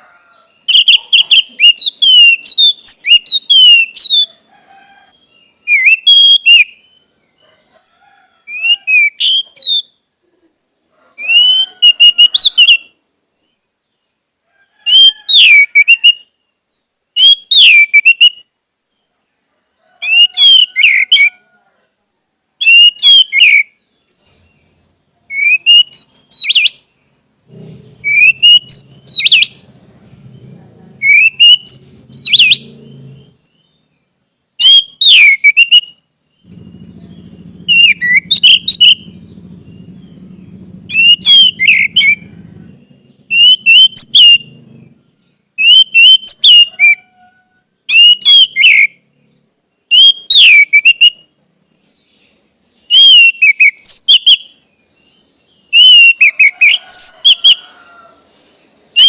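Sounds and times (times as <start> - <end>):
thrush singing whistled notes: 0.0 - 7.8, 8.4 - 10.1, 11.2 - 13.6, 14.9 - 18.5, 20.0 - 21.5, 22.6 - 47.2, 47.9 - 59.0.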